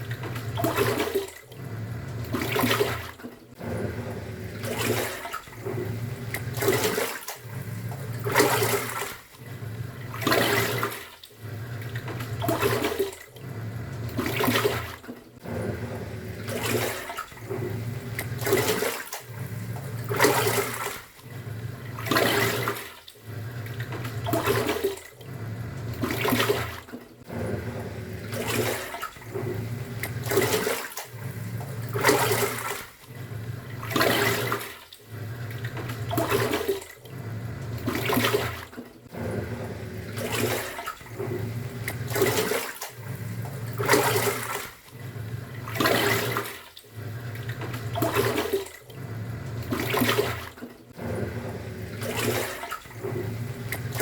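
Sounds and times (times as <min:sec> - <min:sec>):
washing machine motor humming: 0:00.0 - 0:54.0
water sloshing in drum: 0:00.0 - 0:54.0.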